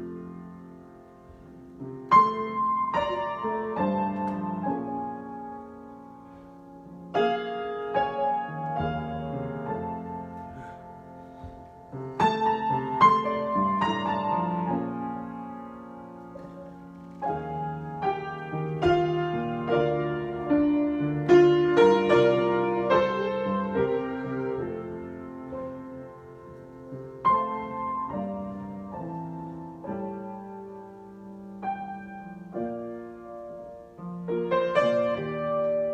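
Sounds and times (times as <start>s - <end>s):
solo piano: 0.0s - 35.9s.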